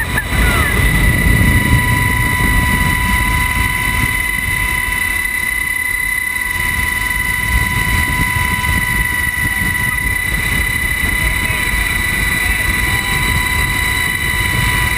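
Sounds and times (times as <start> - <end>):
helicopter high whine: 0.0 - 14.9
rotor and wind rumble: 0.0 - 14.9.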